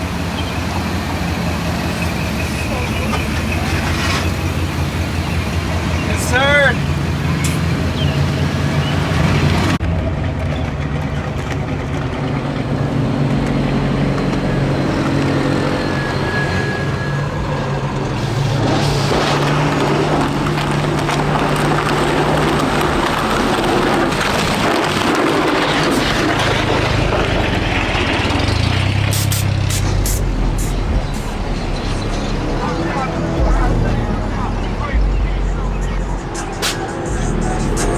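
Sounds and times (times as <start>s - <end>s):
vehicle engines idling: 0.0s - 37.9s.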